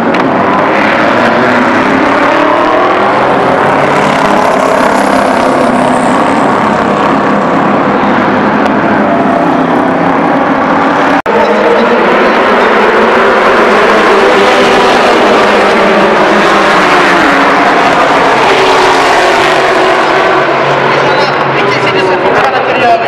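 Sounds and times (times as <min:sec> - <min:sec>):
racing cars passing at speed: 0:00.0 - 0:23.0.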